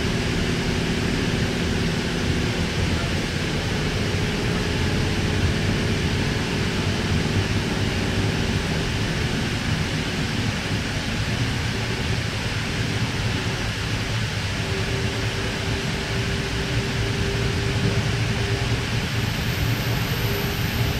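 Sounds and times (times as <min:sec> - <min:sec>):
faint whine: 0:00.0 - 0:20.9
train carriage rumble on rails: 0:00.0 - 0:20.9.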